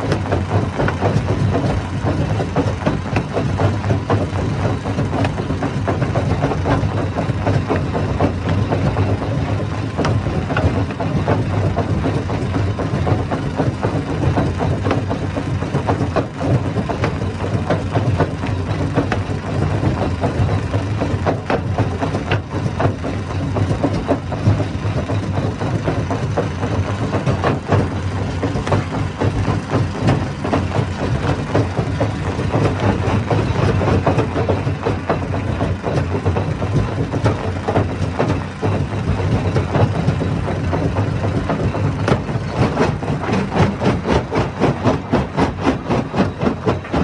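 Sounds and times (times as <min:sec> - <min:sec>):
engine drone: 0:00.0 - 0:47.0.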